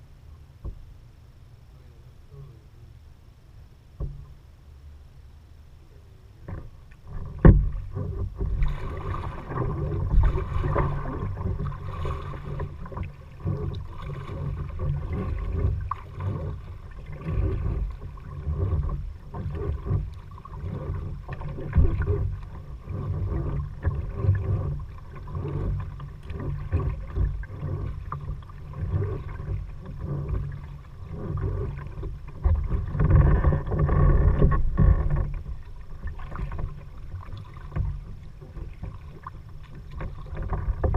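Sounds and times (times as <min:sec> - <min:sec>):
low rumbling noise: 0:00.0 - 0:40.9
paddle splashing in water: 0:06.4 - 0:40.9.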